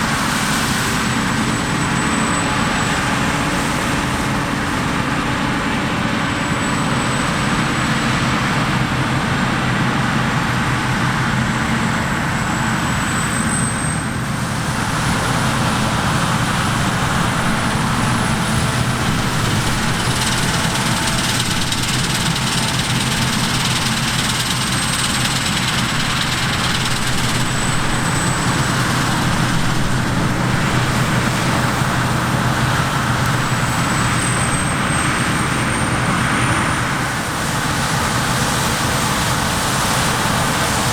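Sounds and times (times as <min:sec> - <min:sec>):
diesel harvester engine drone: 0:00.0 - 0:40.9
high mechanical whine: 0:00.0 - 0:40.9.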